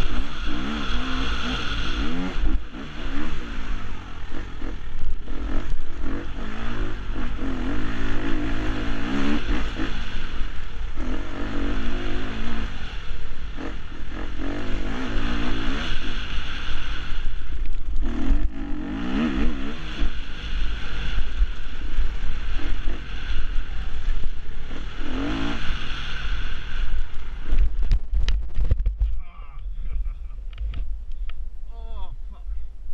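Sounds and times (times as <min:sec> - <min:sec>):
motorcycle engine revving: 0:00.0 - 0:29.1
wind rumbling on microphone: 0:00.0 - 0:32.9.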